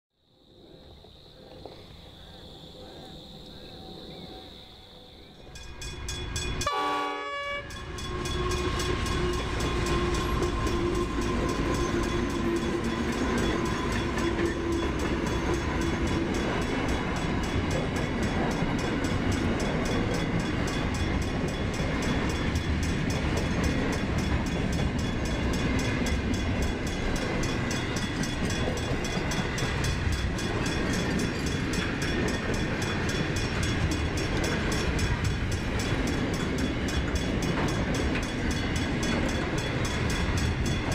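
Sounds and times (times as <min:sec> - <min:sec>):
freight train passing: 0:00.6 - 0:40.9.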